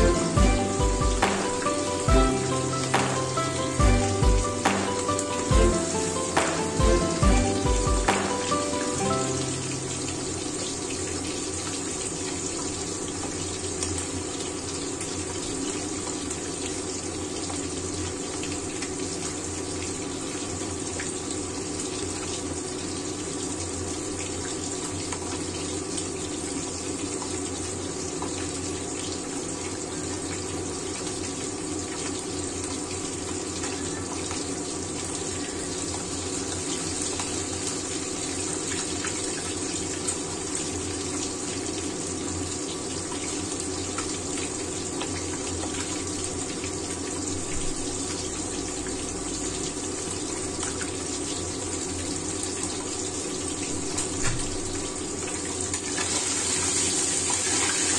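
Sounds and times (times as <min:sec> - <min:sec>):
fish frying in hot oil: 0:07.3 - 0:57.9.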